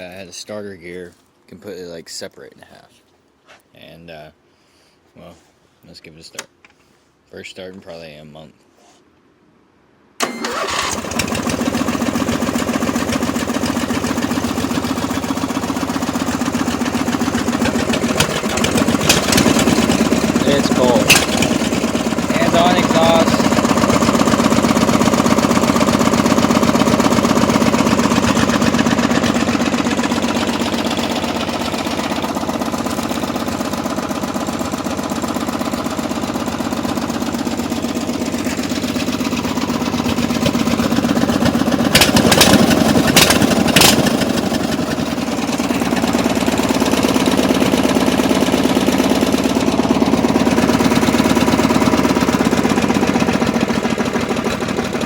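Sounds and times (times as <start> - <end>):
engine idling low: 10.5 - 55.0.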